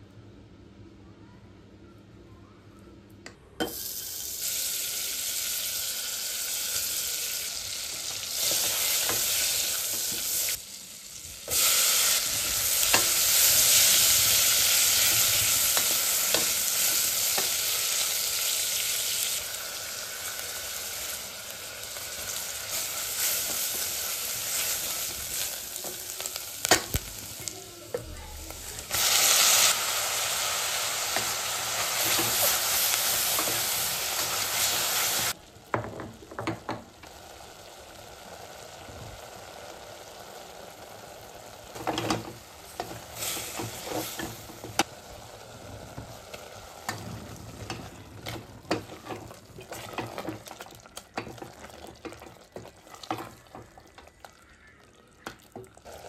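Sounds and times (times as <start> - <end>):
meat and onion sizzling in pot: 3.6 - 56.0.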